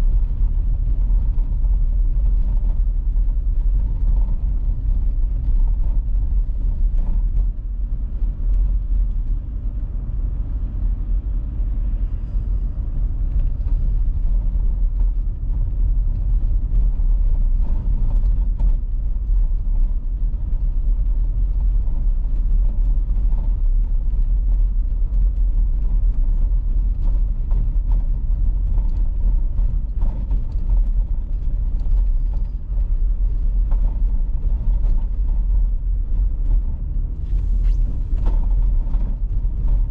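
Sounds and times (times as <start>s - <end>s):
tyre and engine rumble: 0.0s - 39.9s.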